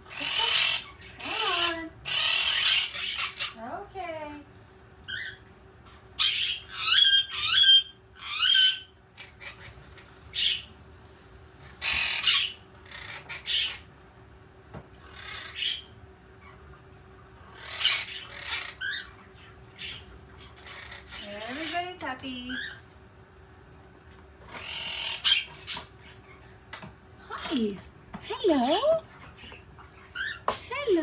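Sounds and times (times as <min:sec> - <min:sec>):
parrots squawking and calling: 0:00.0 - 0:03.7, 0:05.0 - 0:10.7, 0:11.6 - 0:14.0, 0:14.9 - 0:16.6, 0:17.3 - 0:22.9, 0:24.4 - 0:26.6, 0:27.3 - 0:31.0.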